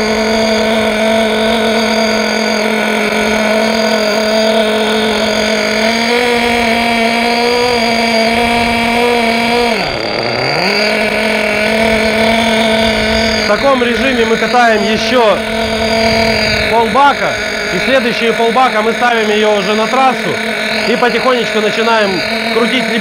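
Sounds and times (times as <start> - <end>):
high-pitched nitro engine running: 0.0 - 23.0.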